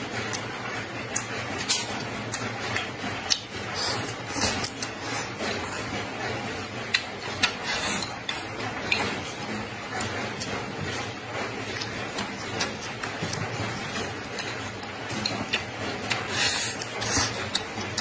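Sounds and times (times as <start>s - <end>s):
person chewing and slurping: 0.2s - 18.0s.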